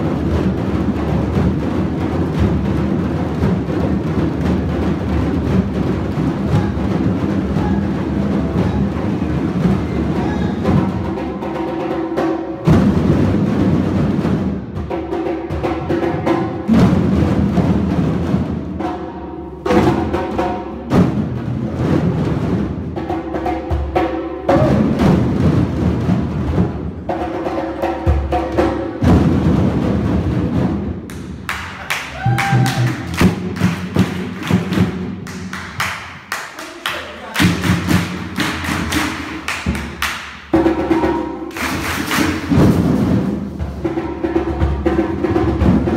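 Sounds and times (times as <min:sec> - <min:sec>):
hand drums playing in a group: 0:00.0 - 0:45.9.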